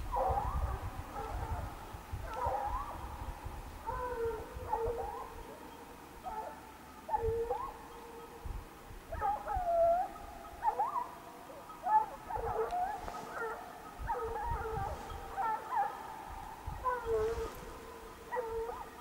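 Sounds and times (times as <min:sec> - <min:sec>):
hounds baying: 0:00.1 - 0:19.0.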